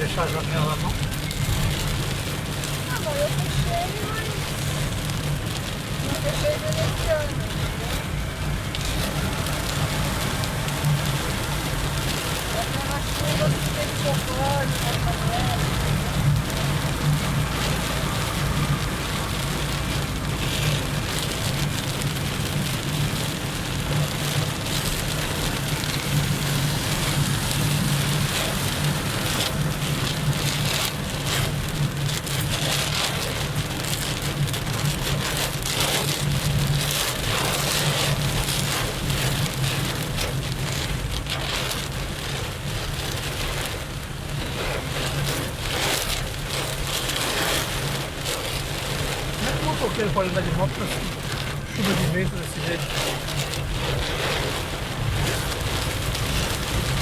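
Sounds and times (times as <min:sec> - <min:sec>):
heavy rain drumming on vehicle: 0:00.0 - 0:57.0.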